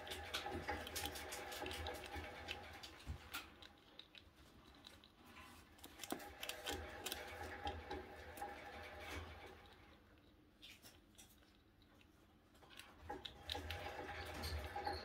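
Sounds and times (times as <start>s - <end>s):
rodent gnawing seeds: 0.0s - 15.0s.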